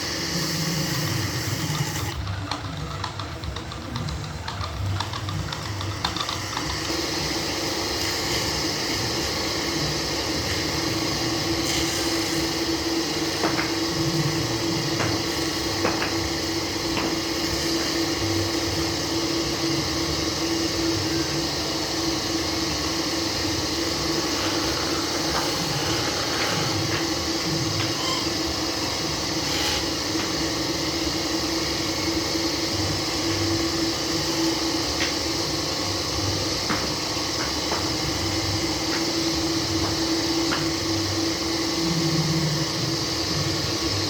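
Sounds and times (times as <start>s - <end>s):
lathe humming: 0.0s - 44.0s.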